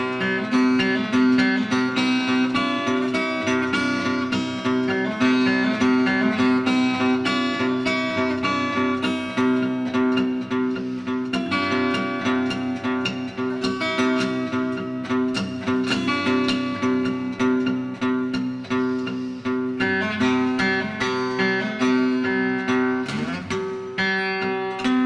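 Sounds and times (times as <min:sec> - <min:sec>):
acoustic guitar chords: 0:00.0 - 0:25.0.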